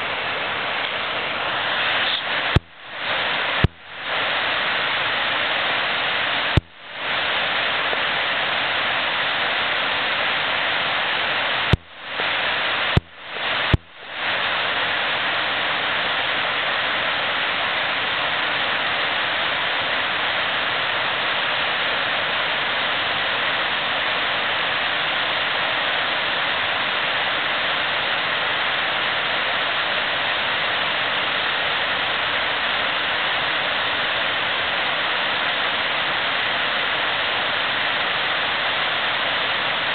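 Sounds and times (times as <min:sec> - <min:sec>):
river water rushing through rapids: 0:00.0 - 0:39.9.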